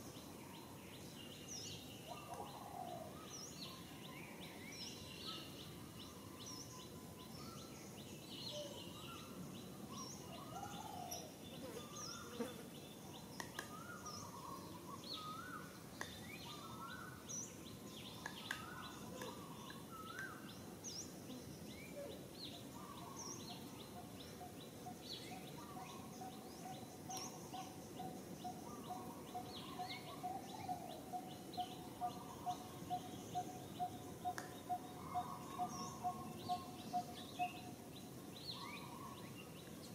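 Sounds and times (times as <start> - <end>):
low background hiss: 0.0 - 39.9.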